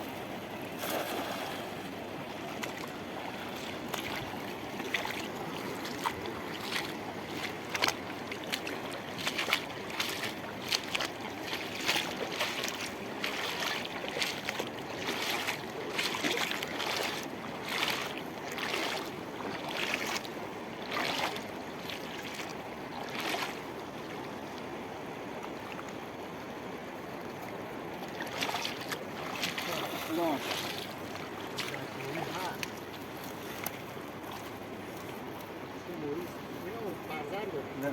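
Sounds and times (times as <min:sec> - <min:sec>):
water splashes: 0:00.0 - 0:26.4, 0:27.3 - 0:37.9
river water rushing: 0:00.0 - 0:37.8.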